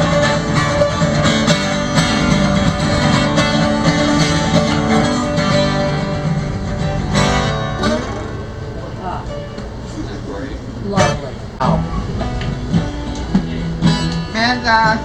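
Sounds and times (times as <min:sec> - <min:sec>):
acoustic guitar blues: 0:00.0 - 0:15.0.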